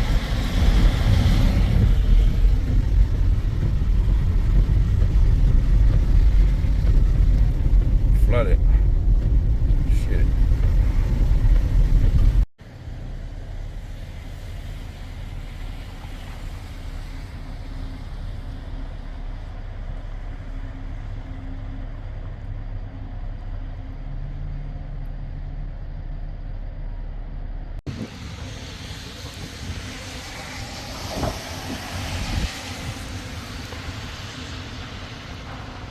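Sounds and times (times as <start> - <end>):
louder noisier rumble: 0.0 - 35.9
motor vehicle rumble: 0.0 - 35.9.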